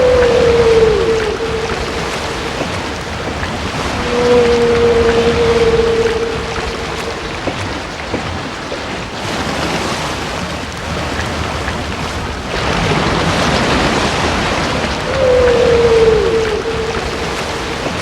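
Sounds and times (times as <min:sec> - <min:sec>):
ocean water hiss: 0:00.0 - 0:18.0.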